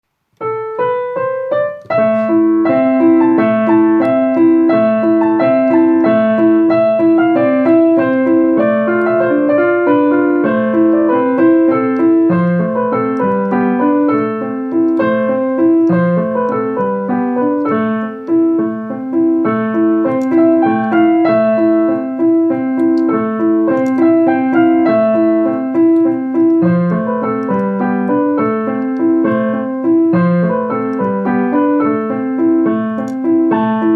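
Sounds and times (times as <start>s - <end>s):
solo piano: 0.0s - 33.9s.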